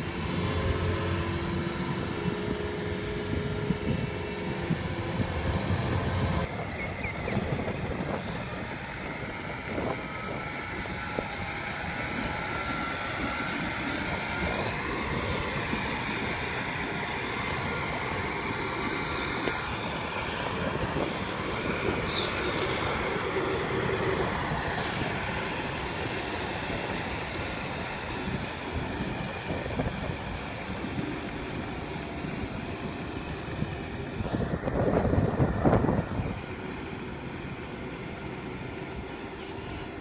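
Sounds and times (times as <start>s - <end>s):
combine harvester diesel engine: 0.0s - 40.0s
tractor diesel engine under load: 0.0s - 40.0s.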